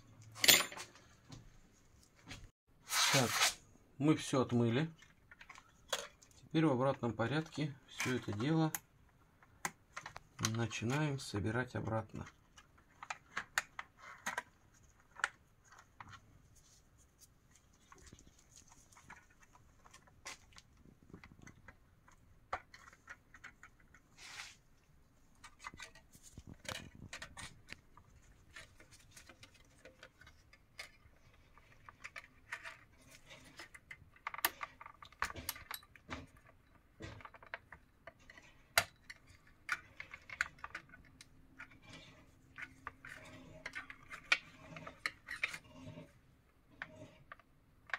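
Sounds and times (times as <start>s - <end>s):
plastic parts clicking and tapping: 4.9s - 16.3s, 17.8s - 24.1s, 25.3s - 47.9s.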